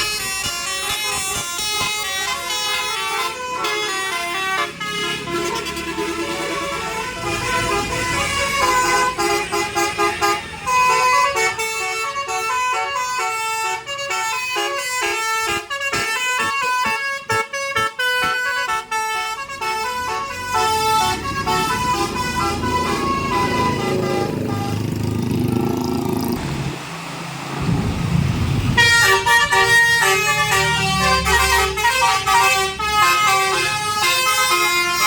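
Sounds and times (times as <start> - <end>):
bus musical air horn melody: 0.0 - 25.2, 28.7 - 35.0.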